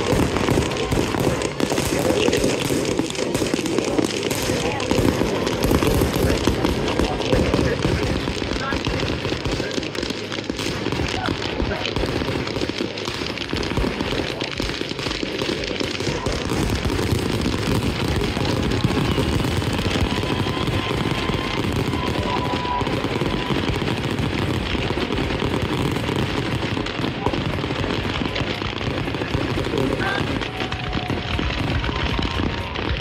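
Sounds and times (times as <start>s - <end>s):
firework whistling: 0.0s - 33.0s
fireworks exploding: 0.0s - 33.0s.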